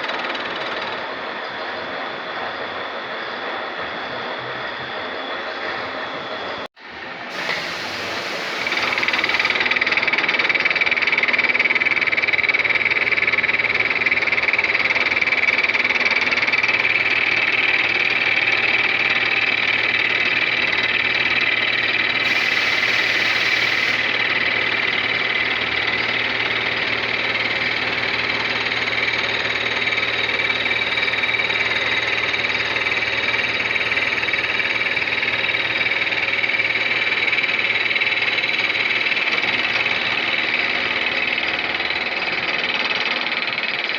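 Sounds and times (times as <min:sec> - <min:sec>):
milling machine whining: 0:00.0 - 0:43.9.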